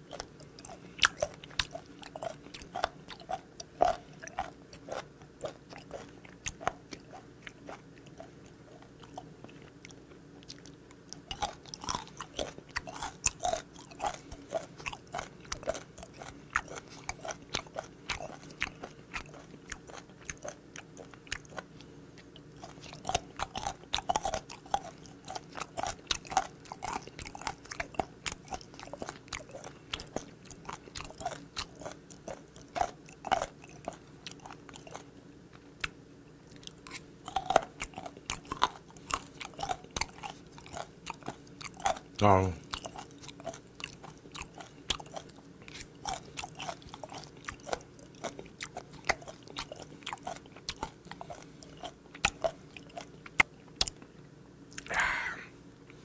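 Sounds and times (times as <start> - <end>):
cartilage crunching while chewing: 0.0 - 54.9.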